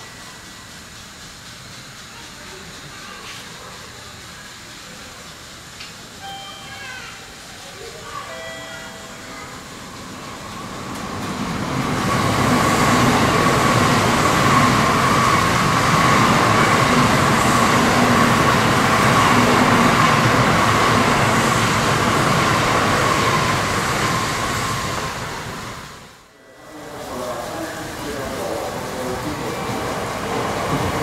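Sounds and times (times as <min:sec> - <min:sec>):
high-speed train rushing past: 0:00.0 - 0:31.0.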